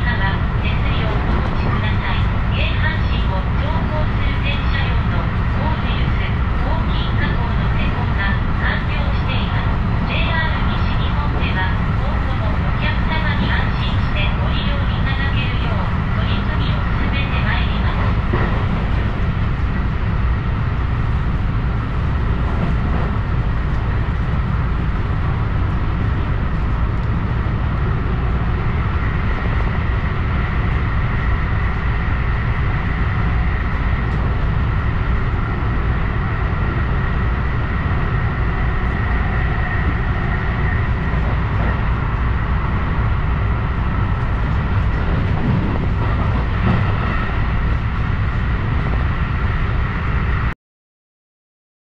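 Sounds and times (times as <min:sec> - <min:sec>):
train rumble inside carriage: 0:00.0 - 0:50.6.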